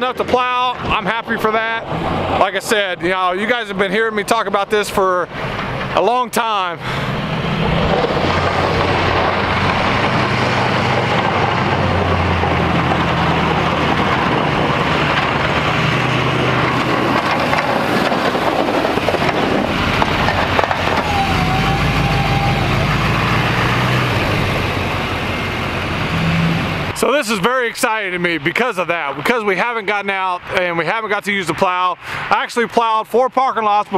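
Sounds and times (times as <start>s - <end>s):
truck engine humming: 0.0s - 32.2s
loud steady rushing noise: 0.0s - 32.8s.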